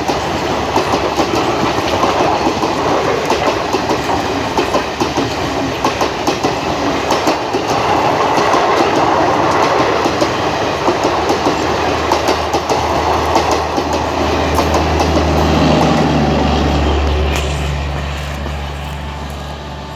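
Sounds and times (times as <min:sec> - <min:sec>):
train wheels clattering over rail joints: 0:00.0 - 0:19.9.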